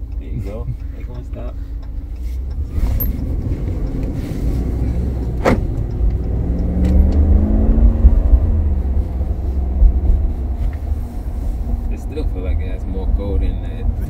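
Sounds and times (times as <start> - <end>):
truck engine rumble from inside: 0.0 - 14.0.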